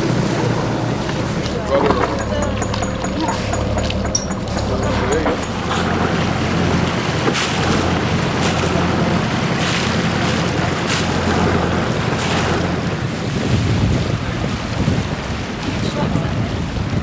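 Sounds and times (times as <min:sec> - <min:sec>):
low rumble: 0:00.0 - 0:14.1
water washing past hull: 0:00.0 - 0:17.0
wind buffeting microphone: 0:00.0 - 0:17.0.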